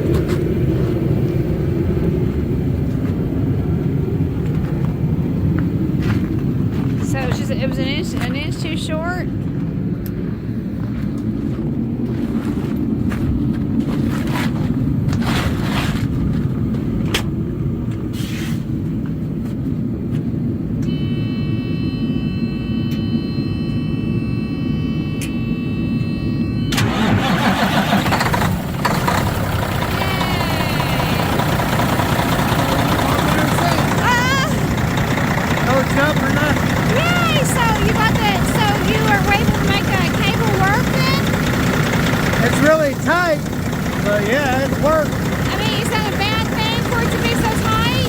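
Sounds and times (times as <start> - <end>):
diesel truck engine rumble: 0.0 - 20.8, 26.8 - 48.0.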